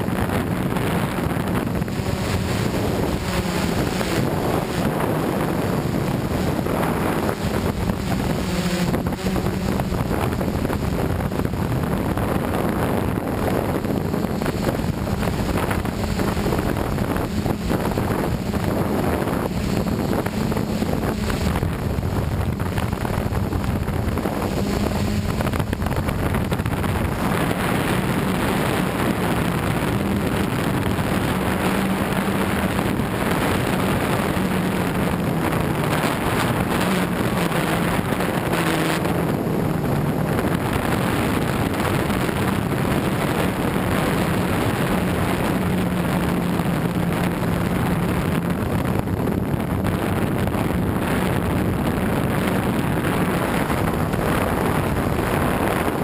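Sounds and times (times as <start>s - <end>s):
drone motors droning hum: 0.0s - 56.0s
wind noise on microphone: 0.0s - 56.0s.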